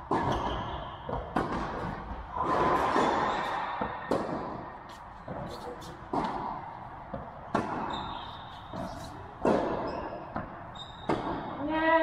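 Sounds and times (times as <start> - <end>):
racket hitting tennis ball: 0.0 - 11.6
tennis ball bouncing: 0.0 - 11.6.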